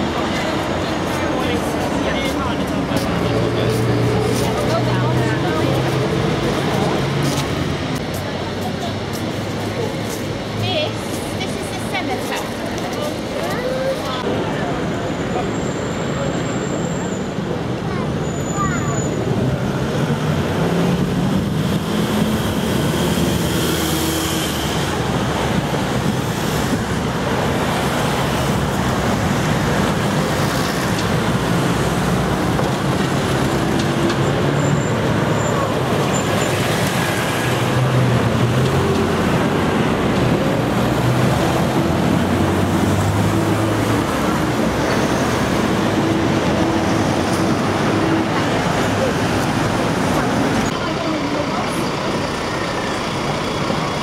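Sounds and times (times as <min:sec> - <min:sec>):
passing car engines: 0:00.0 - 0:54.0.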